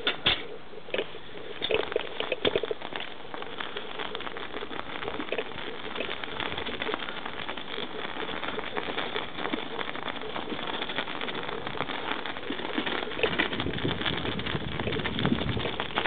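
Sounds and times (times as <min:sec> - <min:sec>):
bicycle tyres crunching snow: 0:00.9 - 0:16.0.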